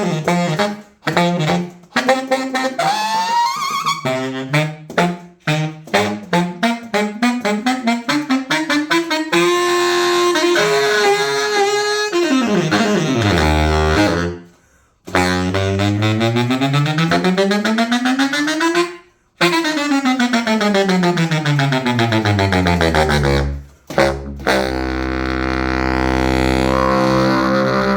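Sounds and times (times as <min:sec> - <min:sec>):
baritone saxophone playing: 0:00.0 - 0:27.9.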